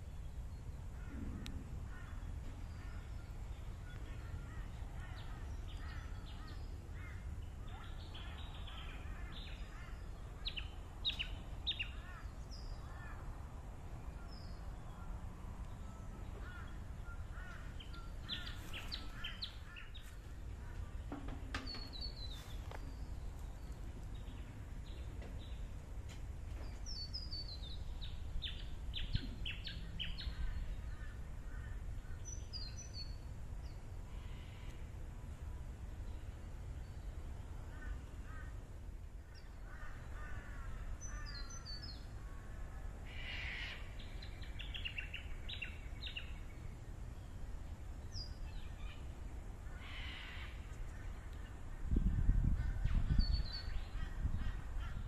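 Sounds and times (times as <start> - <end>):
low background rumble: 0.0 - 55.0.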